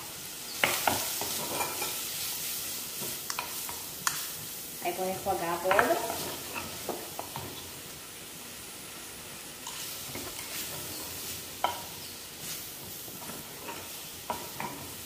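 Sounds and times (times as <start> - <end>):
pumpkin sizzling in a pan: 0.0 - 15.0.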